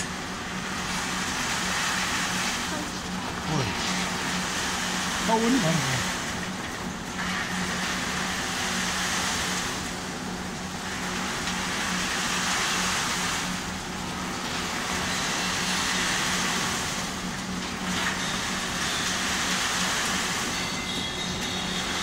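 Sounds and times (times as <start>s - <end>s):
motor hum: 0.0s - 22.0s.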